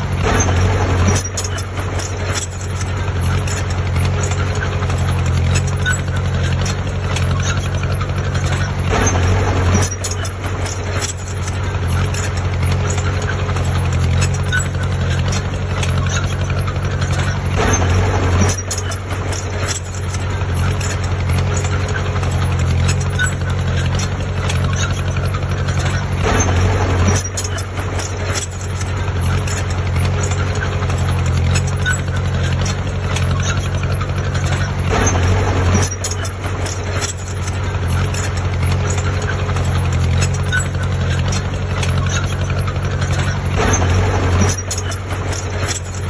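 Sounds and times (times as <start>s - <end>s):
heavy diesel engine running: 0.0s - 46.0s
metallic clicks: 0.0s - 46.0s.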